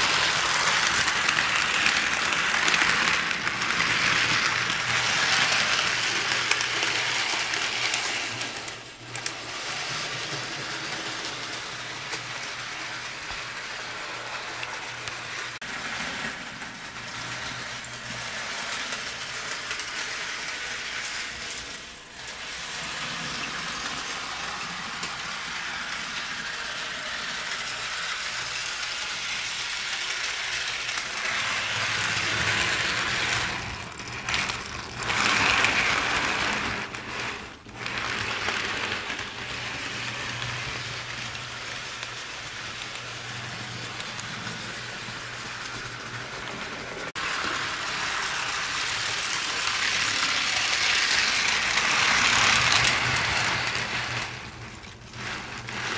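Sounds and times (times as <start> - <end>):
model train wheels clicking on rails: 0.0 - 55.9
motor and gears humming: 0.0 - 55.9.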